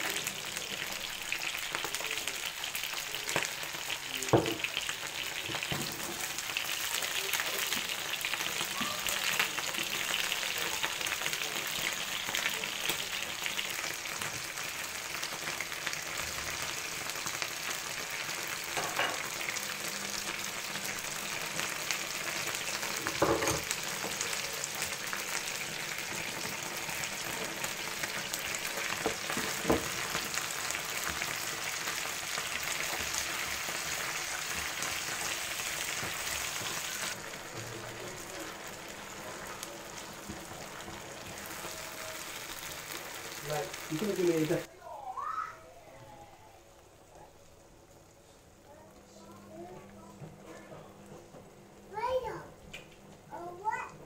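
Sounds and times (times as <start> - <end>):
chicken wings sizzling in a pan: 0.0 - 50.9.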